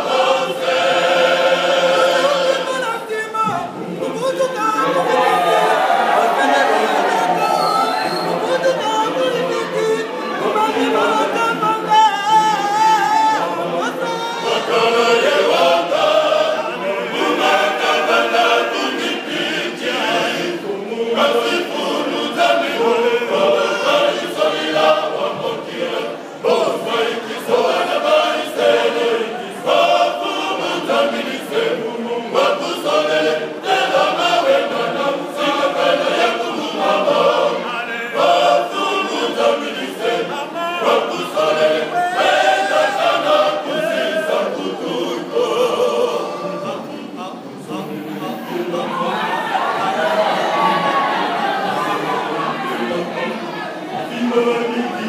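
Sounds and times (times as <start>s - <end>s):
male choir singing unaccompanied: 0.0s - 55.0s.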